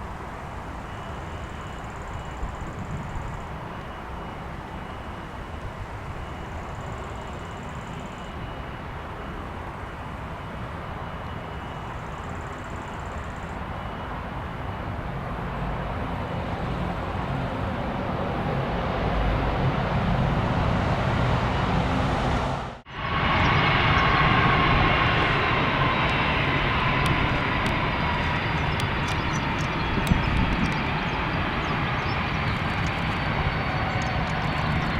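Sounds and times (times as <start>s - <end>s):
jet engine whine: 0.0s - 34.9s
jet engines rumbling: 0.0s - 34.9s.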